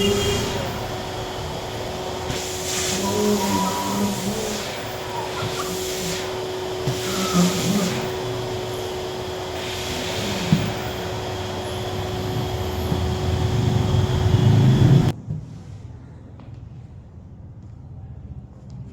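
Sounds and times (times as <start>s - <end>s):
vacuum cleaner running: 0.0s - 15.2s.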